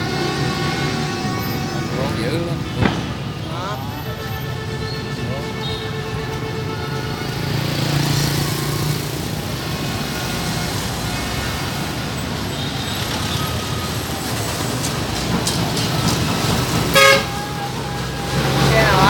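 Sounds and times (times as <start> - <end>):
street traffic of motorbikes and cars: 0.0 - 19.0.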